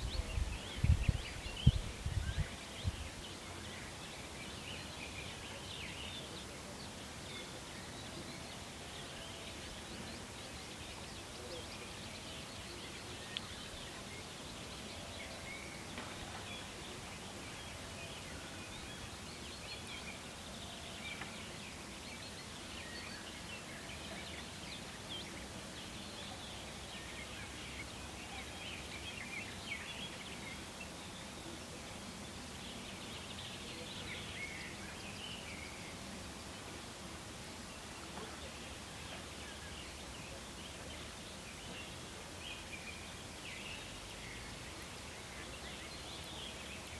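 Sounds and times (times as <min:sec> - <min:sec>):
small birds chirping and singing: 0:00.0 - 0:46.9
steady low background noise: 0:00.0 - 0:46.9.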